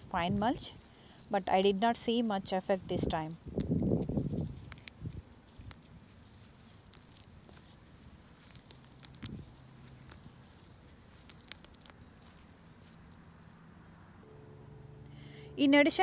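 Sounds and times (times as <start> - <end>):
weeds pulled from soil: 0.0 - 13.5.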